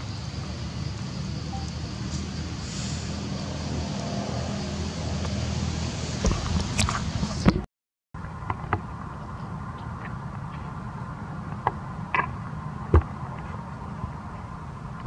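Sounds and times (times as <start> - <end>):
low outdoor rumble: 0.0 - 7.6, 8.2 - 15.0.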